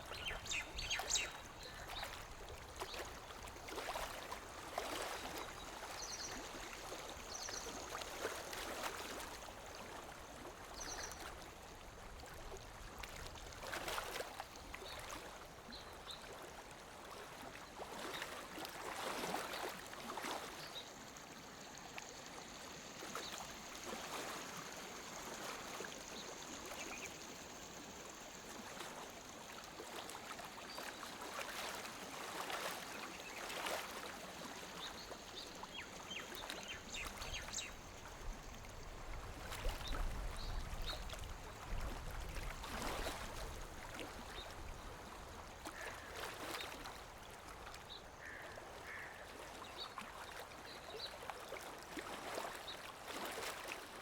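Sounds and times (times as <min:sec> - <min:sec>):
small waves lapping at shore: 0:00.0 - 0:54.0.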